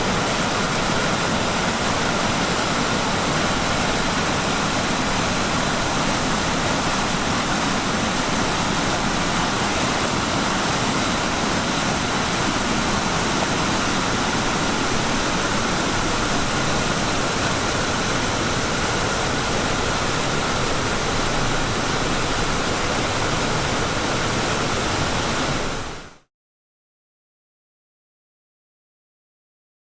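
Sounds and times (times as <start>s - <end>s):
waterfall roaring: 0.0s - 26.2s.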